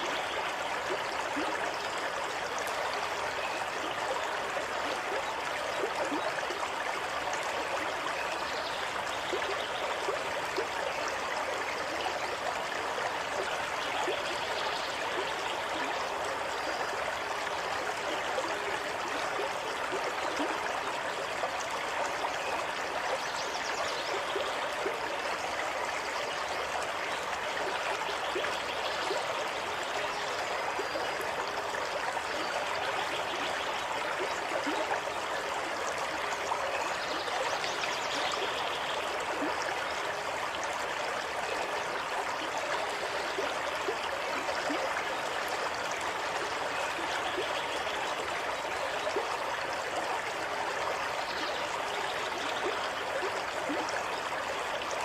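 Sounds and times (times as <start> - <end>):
stream water rushing and trickling: 0.0 - 55.0.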